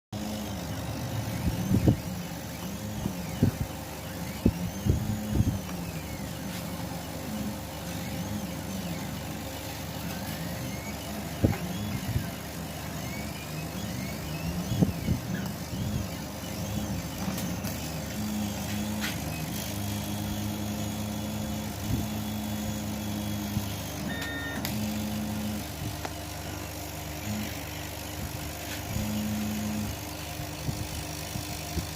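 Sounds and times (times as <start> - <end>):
motors humming and whining: 0.2 - 31.9
steady machine hum: 0.2 - 31.9.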